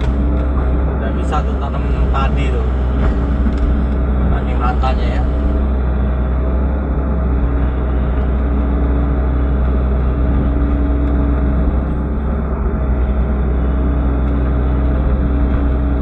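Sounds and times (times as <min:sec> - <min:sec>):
excavator diesel engine hum: 0:00.0 - 0:16.0.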